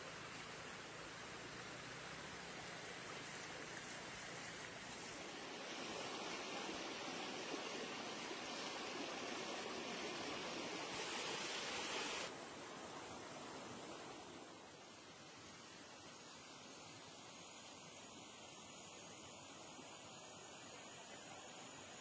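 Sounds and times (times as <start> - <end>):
water flowing in rocky stream: 0.0 - 22.0.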